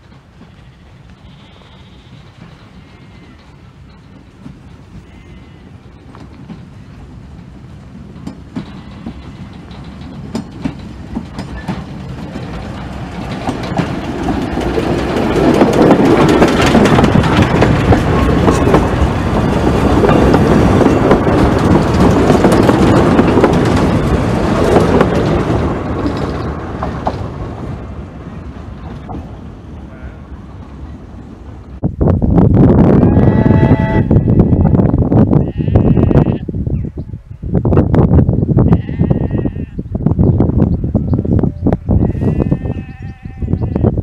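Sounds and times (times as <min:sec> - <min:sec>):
steam train clattering over rails: 0:00.0 - 0:36.4.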